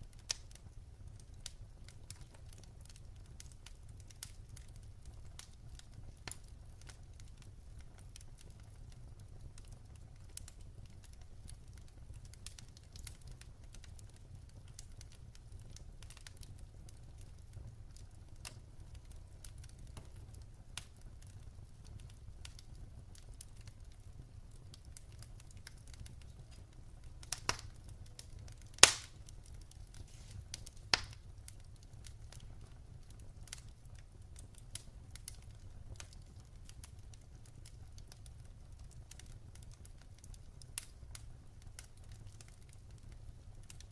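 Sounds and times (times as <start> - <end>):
fire pops: 0.0 - 43.9
wood fire crackling: 0.0 - 43.9.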